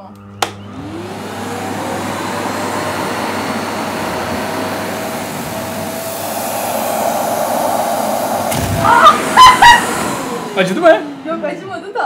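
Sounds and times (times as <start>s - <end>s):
vacuum cleaner motor whining: 0.0s - 12.0s.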